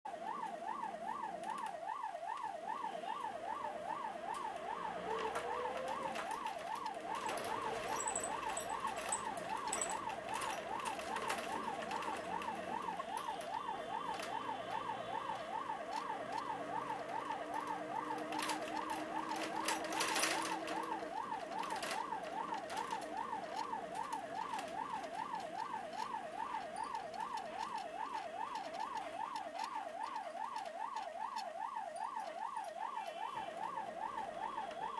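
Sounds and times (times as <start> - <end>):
ambulance siren yelping: 0.1 - 34.9.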